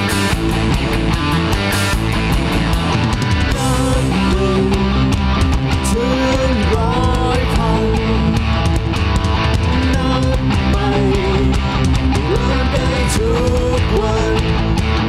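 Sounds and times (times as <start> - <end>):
bass and drums: 0.0 - 15.0
electric guitar melody: 0.0 - 15.0.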